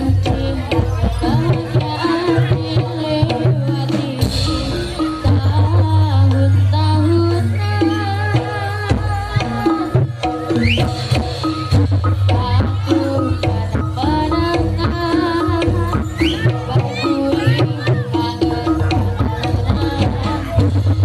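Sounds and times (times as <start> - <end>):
hand drums beating briskly: 0.0 - 21.0
wavering gamelan melody: 0.0 - 21.0.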